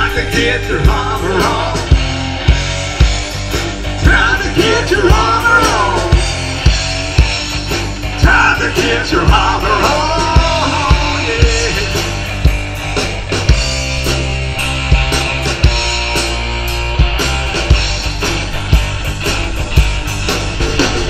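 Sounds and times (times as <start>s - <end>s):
drum kit beat: 0.0s - 21.0s
electric bass: 0.0s - 21.0s
electric guitars: 0.0s - 21.0s.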